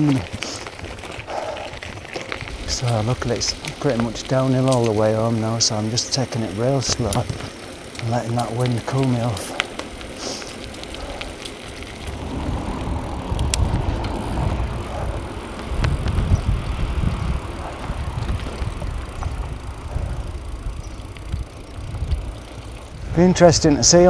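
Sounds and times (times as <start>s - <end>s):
bicycle clicks: 0.0s - 24.0s
bicycle tyres rumbling on road: 0.0s - 24.0s
wind buffeting microphone: 0.0s - 24.0s.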